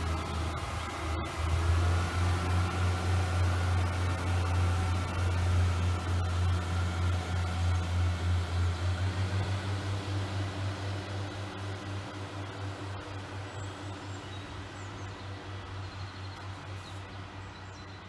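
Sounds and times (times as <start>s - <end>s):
diesel railbus engine drone: 0.0s - 18.0s.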